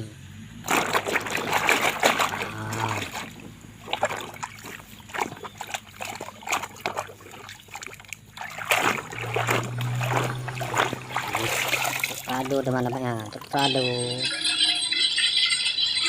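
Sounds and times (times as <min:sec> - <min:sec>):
low steady hum: 0:00.0 - 0:14.9
water splashing and trickling: 0:00.3 - 0:14.3.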